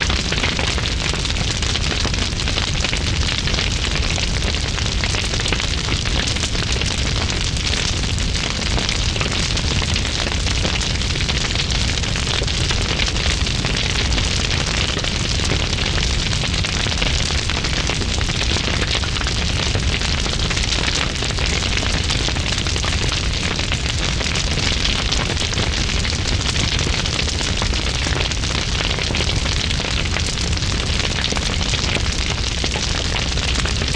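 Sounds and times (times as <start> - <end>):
large fire blazing and crackling: 0.0 - 33.9.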